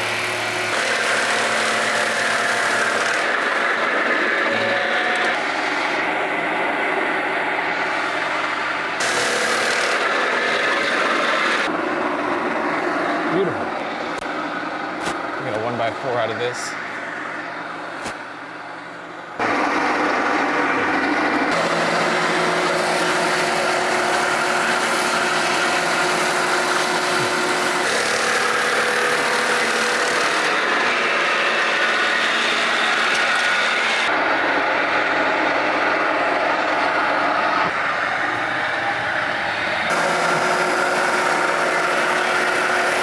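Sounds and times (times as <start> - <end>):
circular saw cutting wood: 0.0 - 14.7, 19.4 - 43.0.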